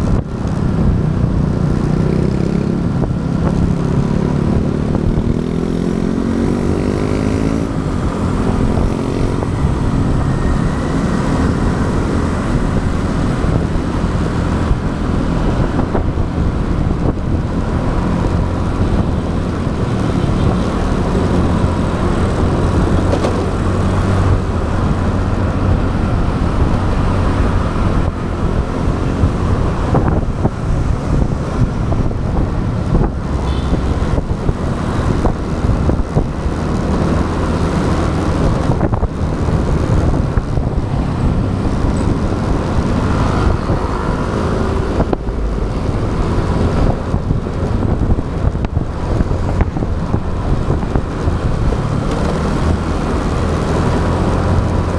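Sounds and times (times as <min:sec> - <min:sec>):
motorbike engine running: 0:00.0 - 0:54.9
road and traffic noise: 0:00.0 - 0:54.9
wind buffeting microphone: 0:00.0 - 0:54.9.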